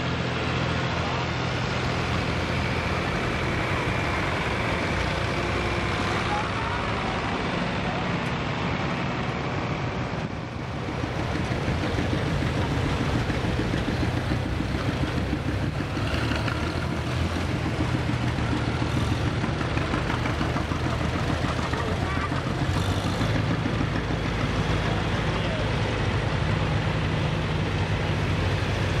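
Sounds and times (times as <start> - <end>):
tractor engines droning: 0.0 - 29.0.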